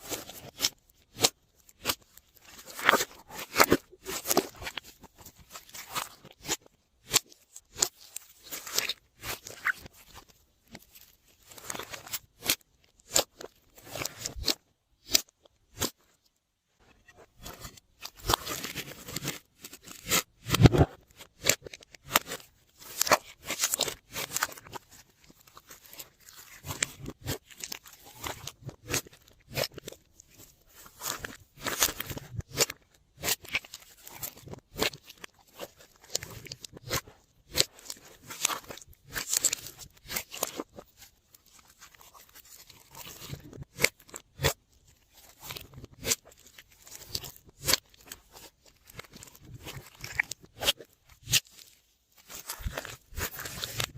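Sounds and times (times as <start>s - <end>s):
slime crackling and squishing: 0.0s - 53.9s.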